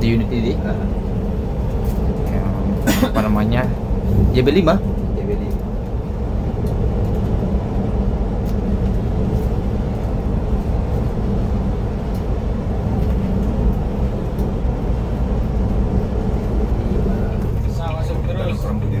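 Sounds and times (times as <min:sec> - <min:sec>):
coach engine and road noise: 0:00.0 - 0:19.0.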